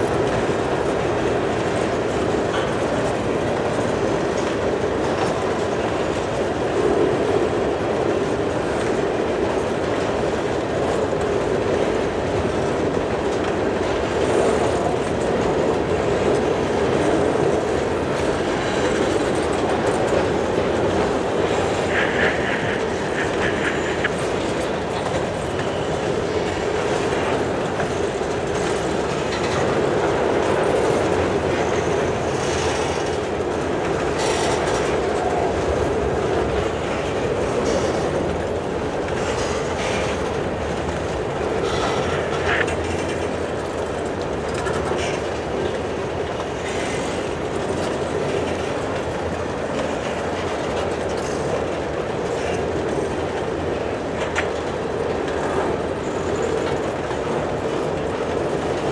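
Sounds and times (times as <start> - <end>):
clickety-clack over rail joints: 0.0 - 58.9
train rumbling on rails: 0.0 - 58.9.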